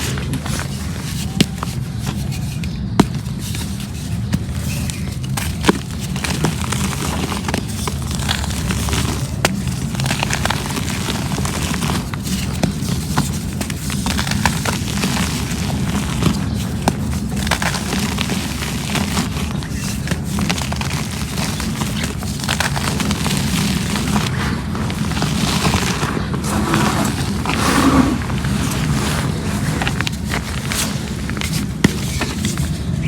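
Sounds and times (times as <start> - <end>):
cement crumbling crackle: 0.0 - 33.0.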